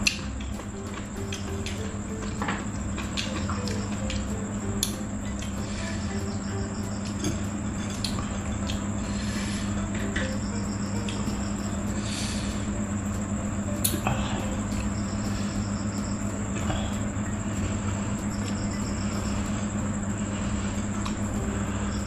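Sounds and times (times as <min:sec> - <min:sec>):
insects chirping: 0:00.0 - 0:22.0
steady low hum: 0:00.0 - 0:22.0.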